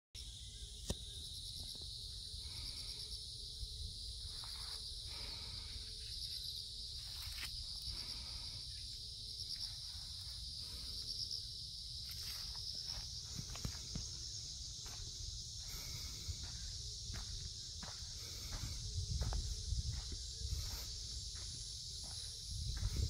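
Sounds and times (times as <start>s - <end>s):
insect chorus: 0.2s - 23.0s.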